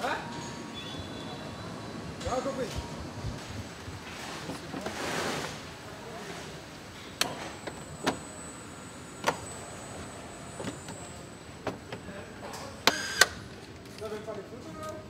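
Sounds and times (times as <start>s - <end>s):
factory hall noise: 0.0s - 15.0s.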